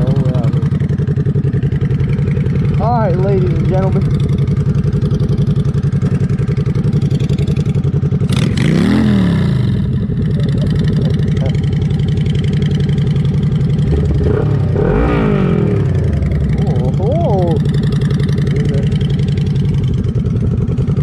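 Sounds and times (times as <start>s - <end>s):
motorcycle engine idling: 0.0s - 21.0s
motorcycle engine revving: 0.0s - 21.0s.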